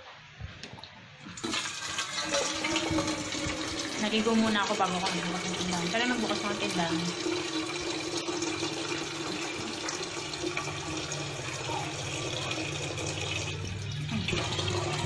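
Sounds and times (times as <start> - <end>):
low steady hum: 0.0 - 15.0
water running from a tap: 1.3 - 15.0.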